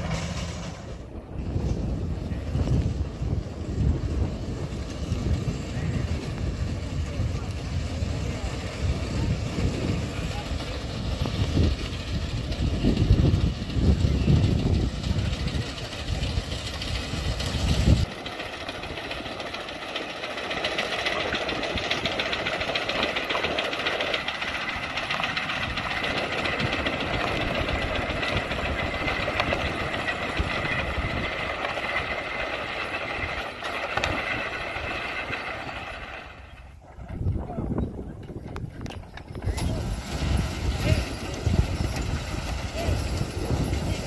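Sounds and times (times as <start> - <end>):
harvester machinery clattering: 0.0 - 2.0, 3.7 - 44.0.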